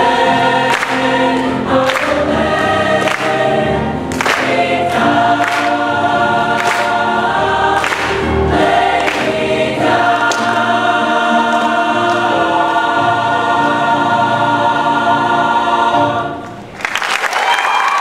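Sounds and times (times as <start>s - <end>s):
choir singing: 0.0s - 16.7s.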